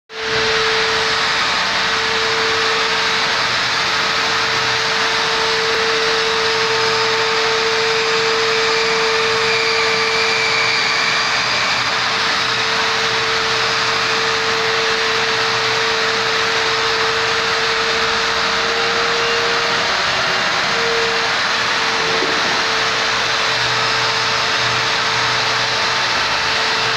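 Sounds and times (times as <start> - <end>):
drywall sander running: 0.1 - 26.9.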